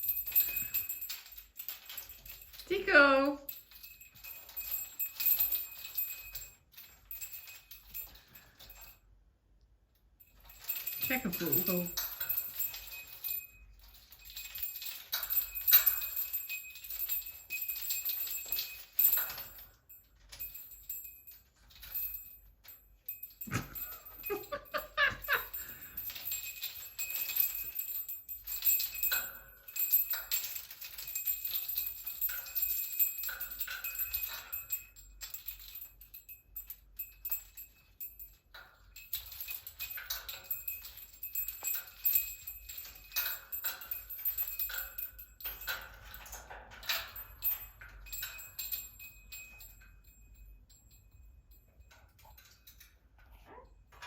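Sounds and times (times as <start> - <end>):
bells jingling and rattling: 0.0 - 9.0, 10.2 - 54.0.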